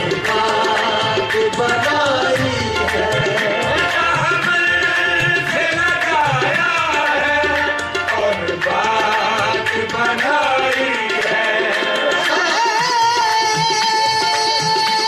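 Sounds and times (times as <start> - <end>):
tabla playing: 0.0 - 15.0.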